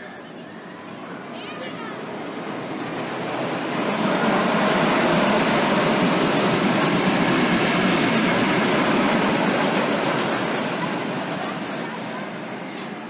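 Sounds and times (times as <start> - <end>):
roller coaster train rumbling on track: 0.0 - 13.0.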